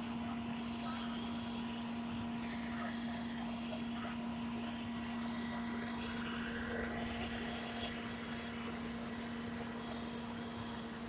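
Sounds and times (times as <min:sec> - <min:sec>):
fire engine pump droning: 0:00.0 - 0:11.0.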